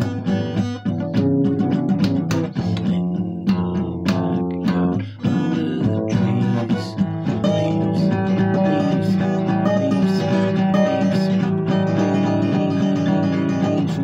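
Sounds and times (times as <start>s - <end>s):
acoustic guitar playing blues: 0.0s - 14.0s.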